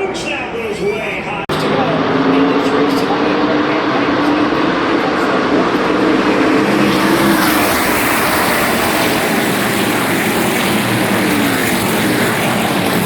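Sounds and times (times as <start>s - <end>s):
race truck engines running hard: 1.2s - 13.0s.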